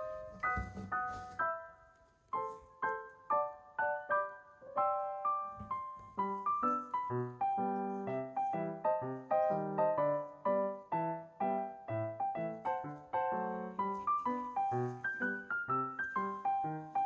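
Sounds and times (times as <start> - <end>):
piano bass line: 0.0 - 17.0
piano melody: 0.0 - 17.0.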